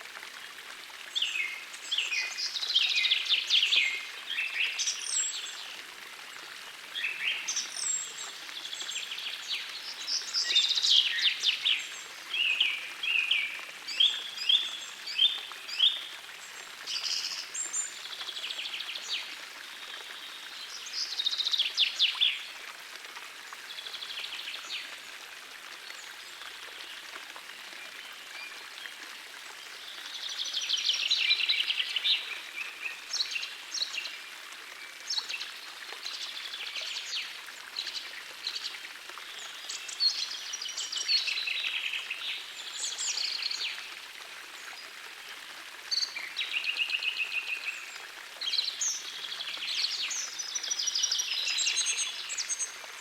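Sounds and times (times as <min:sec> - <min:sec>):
forest stream rushing: 0:00.0 - 0:53.0.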